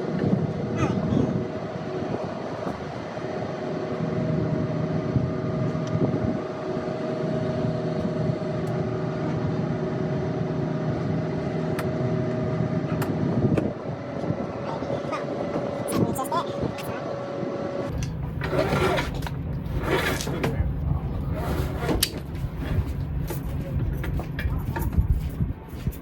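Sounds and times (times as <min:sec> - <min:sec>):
machine humming: 0:00.0 - 0:24.4
noisy background: 0:00.0 - 0:26.0.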